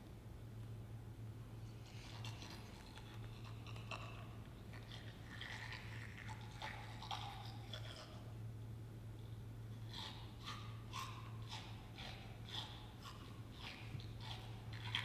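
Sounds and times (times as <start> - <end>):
steady low hum: 0.0 - 15.0
wet mouth chewing sounds: 1.6 - 8.5, 9.3 - 15.0.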